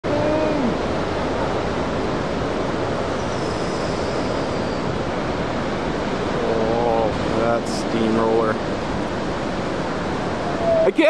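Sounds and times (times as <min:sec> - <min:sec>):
heavy ocean surf breaking: 0:00.0 - 0:11.0.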